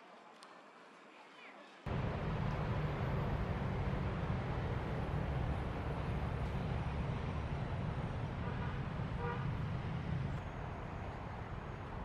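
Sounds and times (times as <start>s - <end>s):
road traffic rumble: 1.9s - 12.0s.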